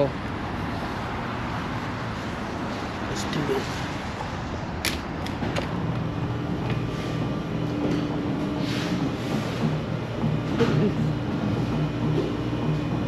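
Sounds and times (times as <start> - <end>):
steady rumbling background noise: 0.0 - 13.0.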